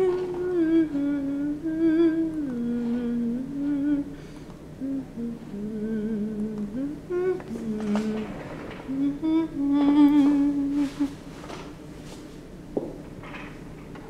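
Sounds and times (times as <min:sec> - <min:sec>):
person humming: 0:00.0 - 0:11.3.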